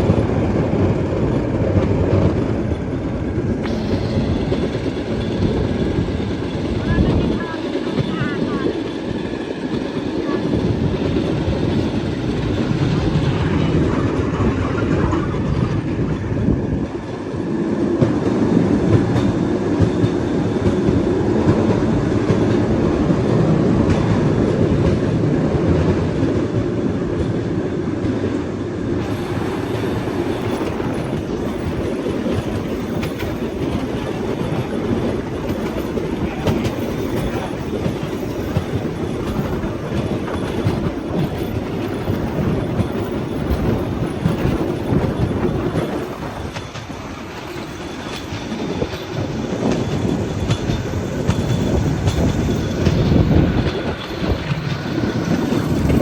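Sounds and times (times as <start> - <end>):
train wheels rumbling over rail joints: 0.0 - 56.0.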